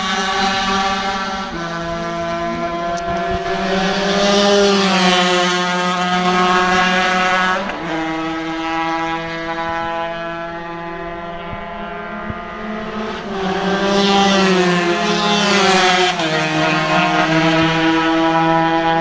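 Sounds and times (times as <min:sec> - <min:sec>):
racing motorcycle engine passing: 0:00.0 - 0:19.0.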